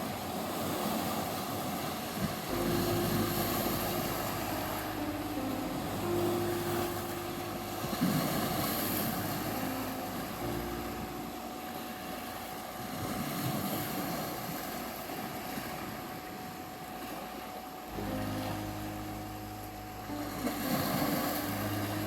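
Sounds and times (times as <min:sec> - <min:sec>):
sea waves washing on beach: 0:00.0 - 0:22.0
slow synth meditation music: 0:00.0 - 0:22.0
steady tone: 0:02.2 - 0:22.0.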